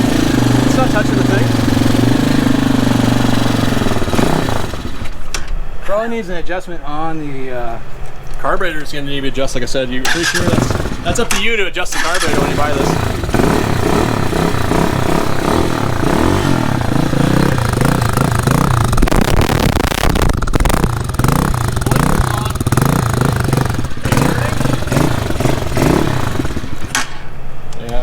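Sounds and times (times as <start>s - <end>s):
dirt bike engine revving unevenly: 0.0s - 5.5s, 10.1s - 27.7s.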